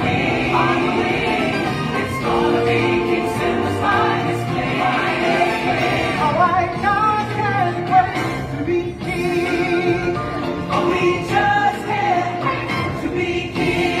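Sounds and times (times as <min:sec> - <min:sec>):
choir singing: 0:00.0 - 0:06.9, 0:07.9 - 0:14.0
stage-show music: 0:00.0 - 0:14.0.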